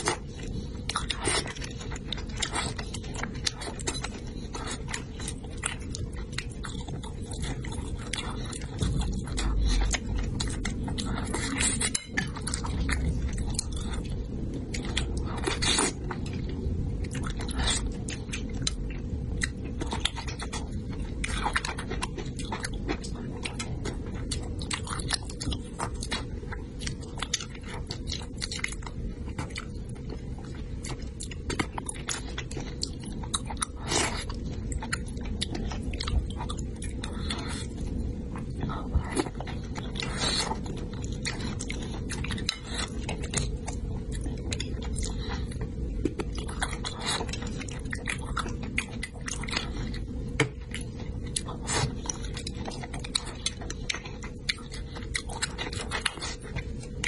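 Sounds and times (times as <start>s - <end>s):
chewing with wet mouth clicks: 0.0s - 57.0s
steady low hum: 0.0s - 57.0s.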